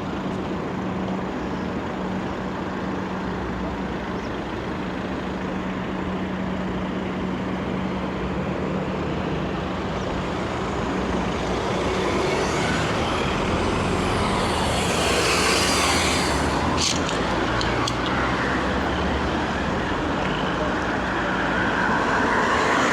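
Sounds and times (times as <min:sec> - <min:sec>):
city street traffic: 0:00.0 - 0:22.9
heavy vehicle engine hum: 0:00.0 - 0:22.9.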